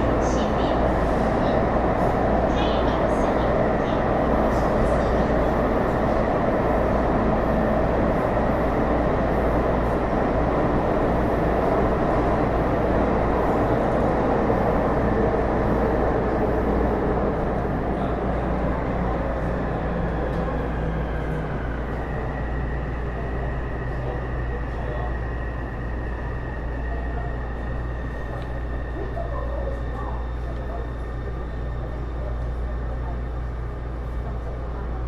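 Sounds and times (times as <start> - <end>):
train wheel-on-rail rumble: 0.0 - 35.0.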